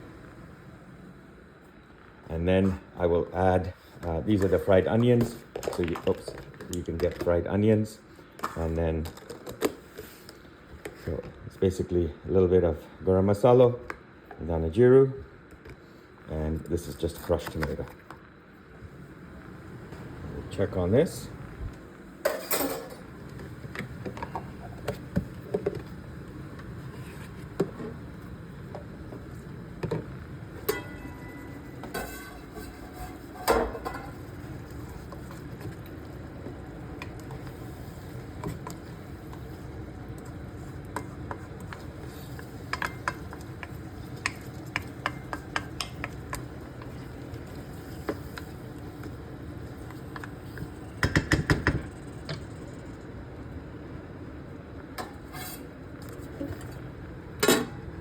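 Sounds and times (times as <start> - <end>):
low sizzle: 0.0 - 58.0.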